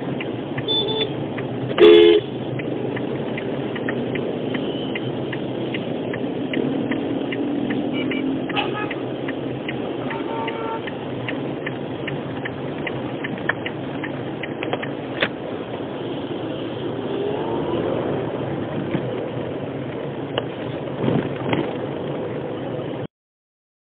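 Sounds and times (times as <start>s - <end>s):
car engine and road noise: 0.0s - 23.1s.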